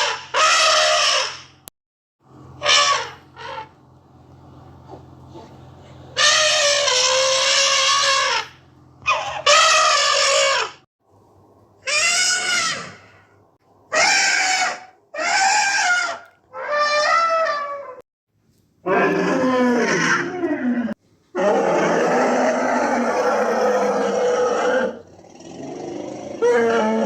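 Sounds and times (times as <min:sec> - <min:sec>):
elephant trumpeting: 0:00.0 - 0:01.6, 0:02.6 - 0:03.8, 0:04.8 - 0:10.8, 0:11.8 - 0:13.3, 0:13.9 - 0:18.0, 0:18.8 - 0:27.0.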